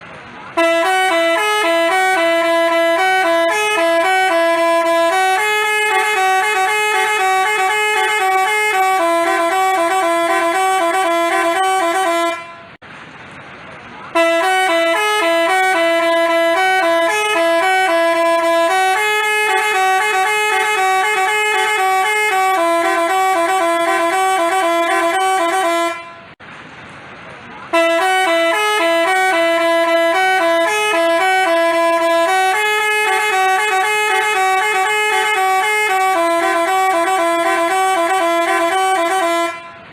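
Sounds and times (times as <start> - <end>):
bus horn playing a melody: 0.4 - 12.8, 14.1 - 26.4, 27.7 - 39.9.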